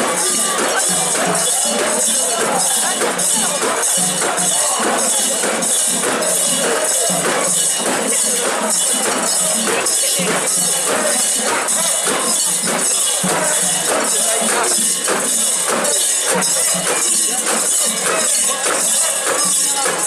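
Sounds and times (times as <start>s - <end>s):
festival music: 0.0s - 20.0s
metallic percussion: 0.0s - 20.0s
rhythmic jingling: 0.0s - 20.0s.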